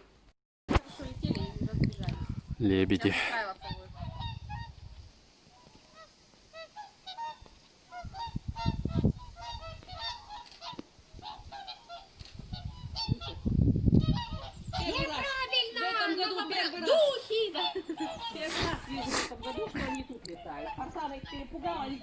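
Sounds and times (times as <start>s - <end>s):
swans honking: 3.0s - 22.0s.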